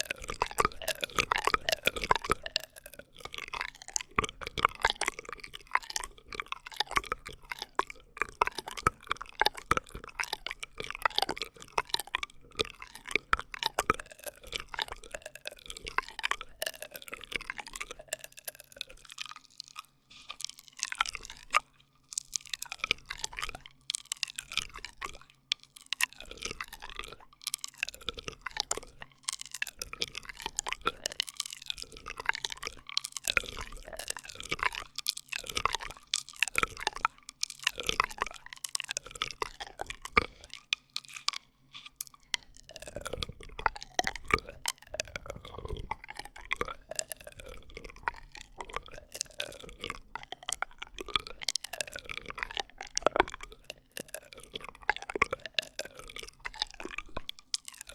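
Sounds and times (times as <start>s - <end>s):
plastic straws crackling and squeaking: 0.0s - 57.9s.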